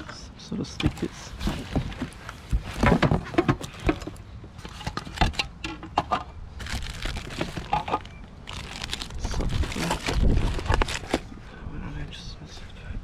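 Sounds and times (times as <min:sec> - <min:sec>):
objects rummaged by hand: 0:00.8 - 0:11.3.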